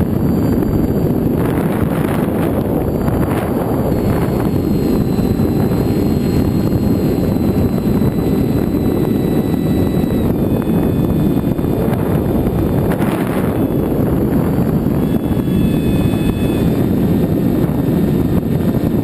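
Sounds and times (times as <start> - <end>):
electric motor and propeller whine: 0.0 - 19.0
wind buffeting microphone: 0.0 - 19.0.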